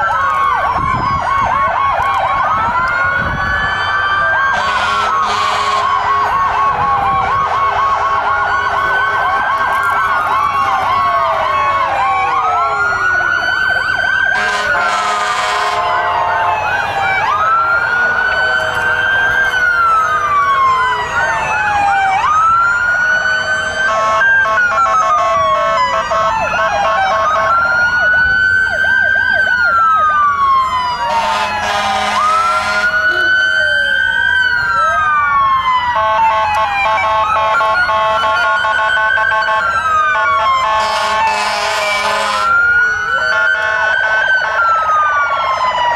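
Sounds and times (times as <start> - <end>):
fast yelping siren warbles: 0.0 - 45.9
fire truck sirens wailing: 0.0 - 45.9
long steady siren blasts: 0.0 - 45.9.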